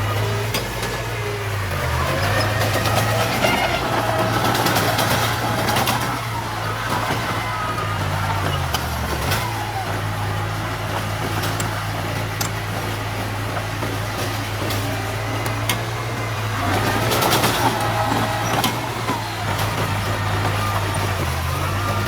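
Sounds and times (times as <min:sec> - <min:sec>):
diesel engine droning: 0:00.0 - 0:22.0
machinery clanks: 0:00.0 - 0:22.0.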